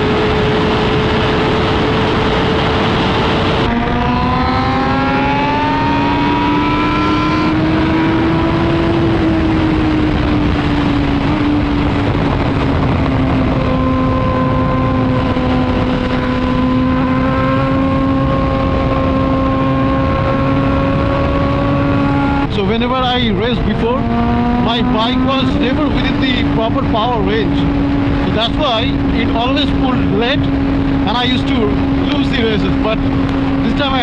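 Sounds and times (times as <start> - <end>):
motorcycle engine pulling hard: 0.0 - 34.0
wind rush: 0.0 - 34.0.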